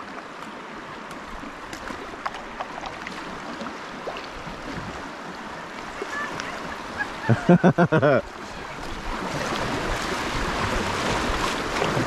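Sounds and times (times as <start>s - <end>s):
river water running over rocks: 0.0s - 12.0s.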